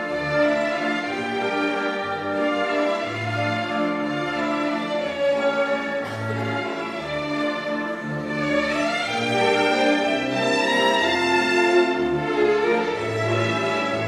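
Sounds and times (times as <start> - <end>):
strings holding long notes: 0.0 - 14.0.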